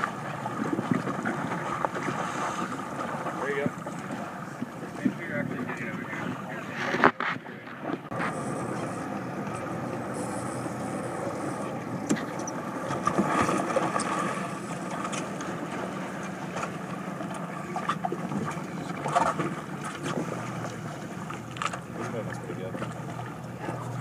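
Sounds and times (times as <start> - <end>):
boat engine idling: 0.0 - 24.0
water lapping against hull: 0.0 - 24.0.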